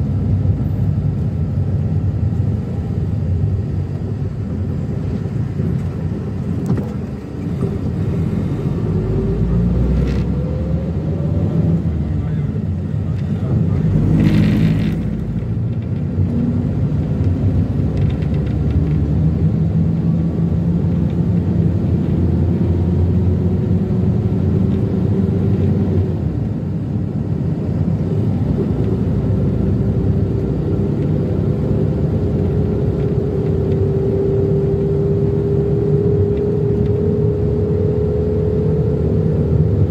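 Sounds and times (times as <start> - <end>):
minivan engine rumble: 0.0 - 39.9
road noise: 0.0 - 39.9.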